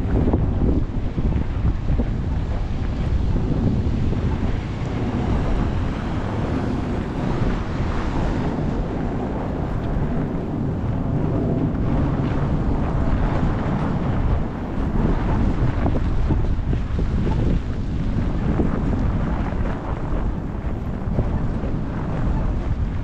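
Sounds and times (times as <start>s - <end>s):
strong wind on microphone: 0.0s - 23.0s.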